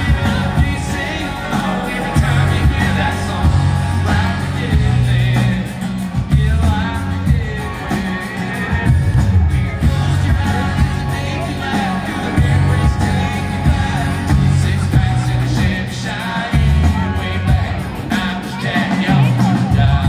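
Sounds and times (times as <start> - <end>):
heavy bass notes: 0.0 - 20.0
live rock band: 0.0 - 20.0
sung lead vocal: 0.0 - 20.0.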